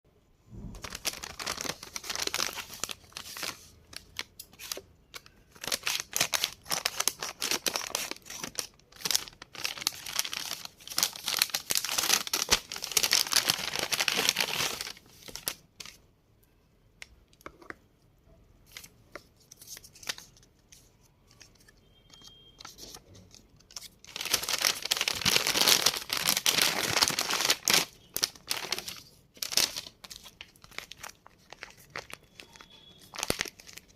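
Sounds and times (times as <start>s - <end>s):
plastic packaging being torn and crinkled: 0.6s - 16.0s, 21.6s - 33.9s.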